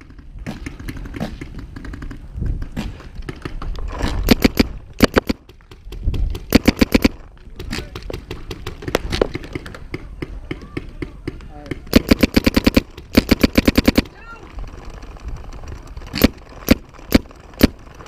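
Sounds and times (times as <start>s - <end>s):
paintball markers firing: 0.4s - 18.0s.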